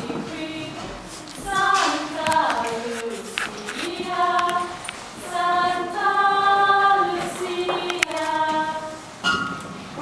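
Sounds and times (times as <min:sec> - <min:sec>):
choir of girls singing: 0:00.0 - 0:09.2.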